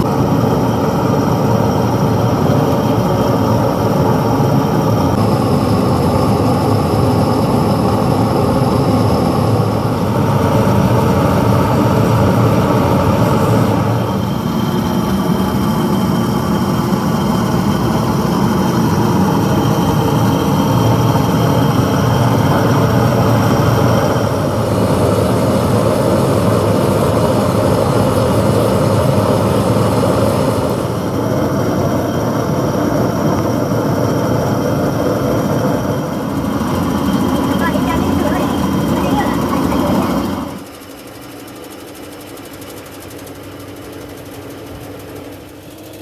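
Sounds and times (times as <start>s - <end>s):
loud machinery running: 0.0s - 46.0s
steady machine tones: 0.0s - 46.0s.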